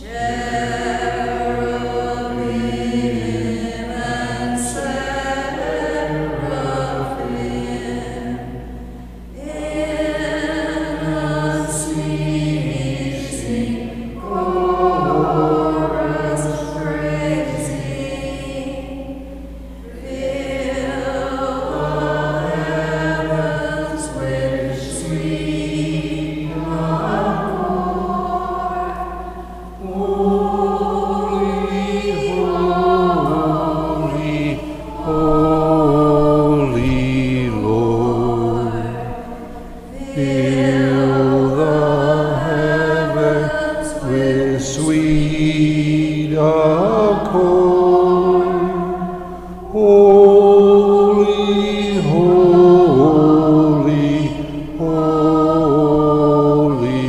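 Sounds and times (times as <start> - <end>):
sustained instrumental chords: 0.0 - 57.0
woman singing a slow hymn: 0.0 - 57.0.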